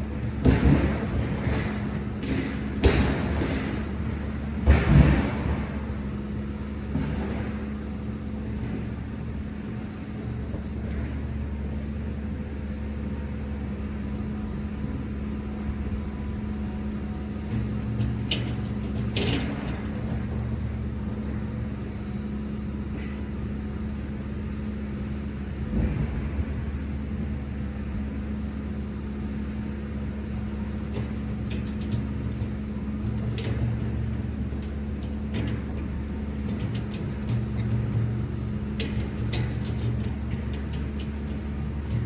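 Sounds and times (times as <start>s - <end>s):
truck engine droning: 0.0s - 42.0s.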